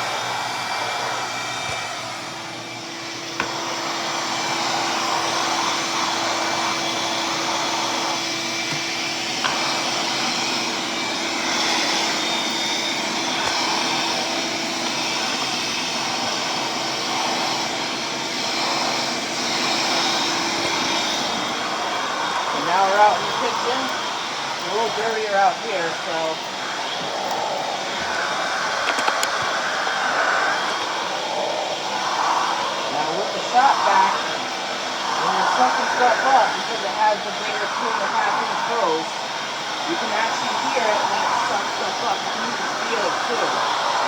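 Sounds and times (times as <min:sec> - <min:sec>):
shop vacuum running: 0:00.0 - 0:44.0.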